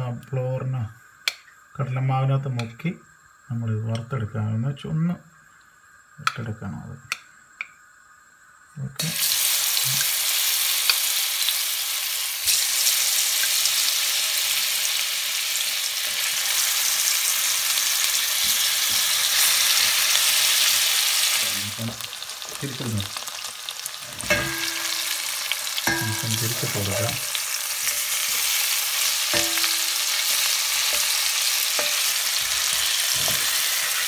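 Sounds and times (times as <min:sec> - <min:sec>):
battered cubes sizzling in hot oil: 0:05.3 - 0:34.0.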